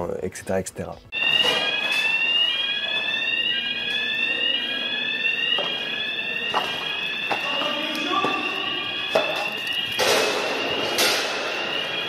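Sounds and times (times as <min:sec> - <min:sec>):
fire alarm rising tone: 0:01.1 - 0:12.0.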